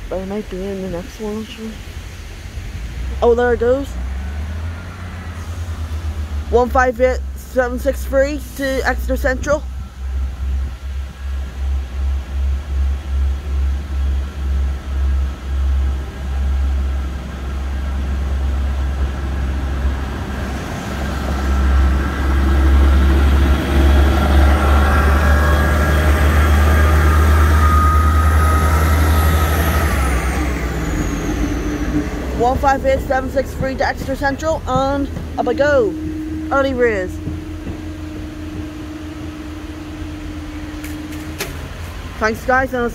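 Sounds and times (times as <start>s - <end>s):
diesel train engine pulsing: 0.0s - 42.9s
train rumble with whining: 0.0s - 42.9s.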